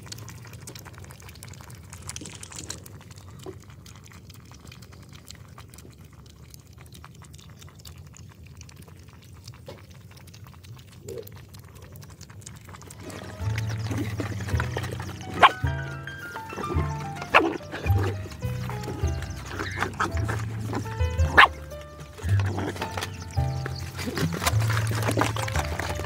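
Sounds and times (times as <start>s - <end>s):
puppies lapping milk: 0.0s - 26.0s.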